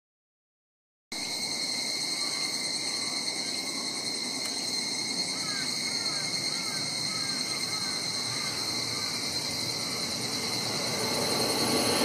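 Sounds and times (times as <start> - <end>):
insects trilling: 1.2 - 12.0.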